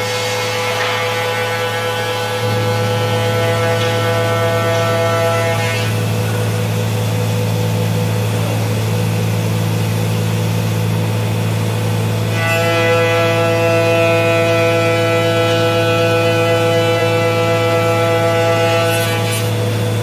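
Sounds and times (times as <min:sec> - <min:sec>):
high spindle whine: 0:00.0 - 0:20.0
machine hum: 0:00.0 - 0:20.0.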